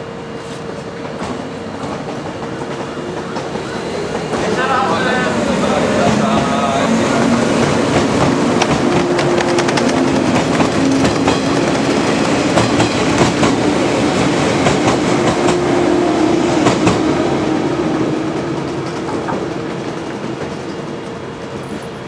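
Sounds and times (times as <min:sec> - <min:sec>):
train wheels clickety-clack: 0:00.4 - 0:22.0.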